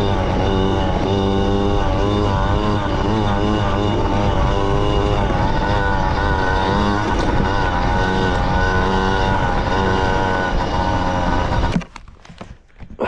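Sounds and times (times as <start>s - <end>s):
small engine running unevenly: 0.0s - 13.0s.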